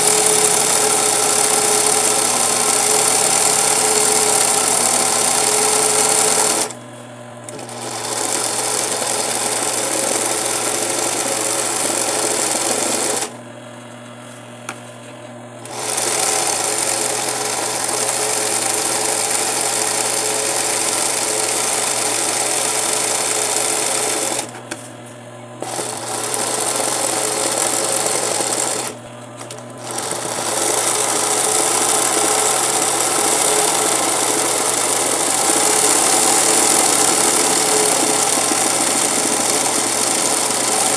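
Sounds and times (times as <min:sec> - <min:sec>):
sewing machine stitching: 0:00.0 - 0:06.8, 0:07.5 - 0:13.4, 0:15.6 - 0:24.6, 0:25.6 - 0:40.9.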